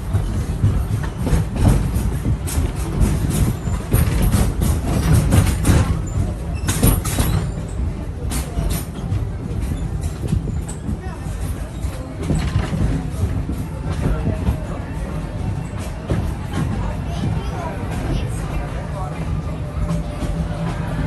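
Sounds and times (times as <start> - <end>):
train cars rumbling: 0.0 - 21.0
wheels and couplings clanking: 0.0 - 21.0.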